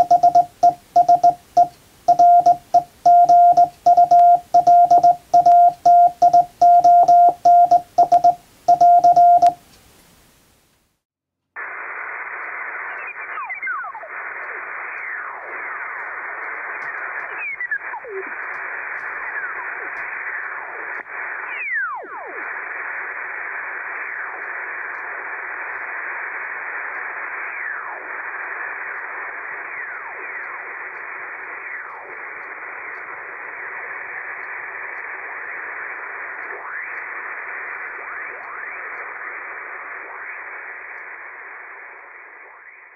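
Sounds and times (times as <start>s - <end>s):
radio receiver hiss: 0.0s - 11.0s, 11.6s - 42.9s.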